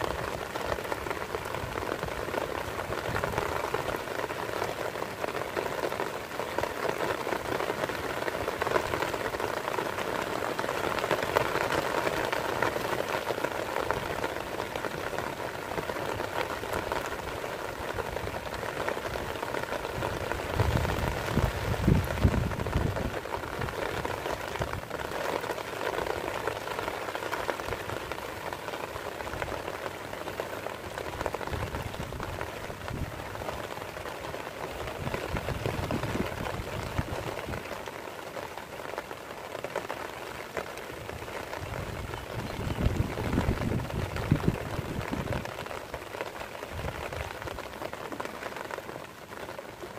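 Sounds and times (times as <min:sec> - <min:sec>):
heavy rain on grass and puddle: 0:00.0 - 0:49.9.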